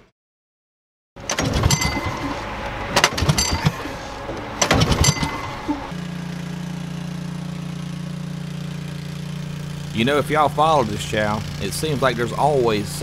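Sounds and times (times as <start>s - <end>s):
small engine starting and running: 1.2s - 13.0s.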